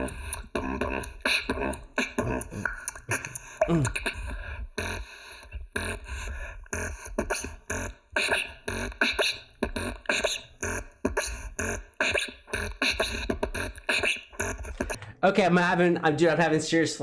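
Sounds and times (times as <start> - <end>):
beatboxing: 0.0 - 15.2.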